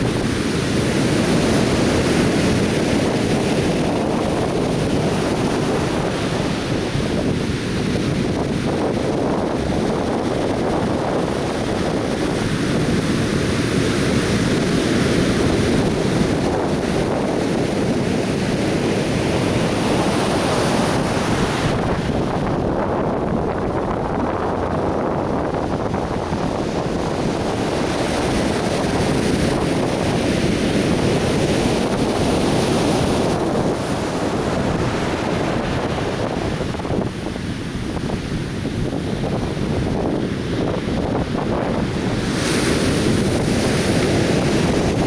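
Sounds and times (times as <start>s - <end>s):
waves breaking on a beach: 0.0s - 45.0s
wind rumbling on microphone: 0.0s - 45.0s.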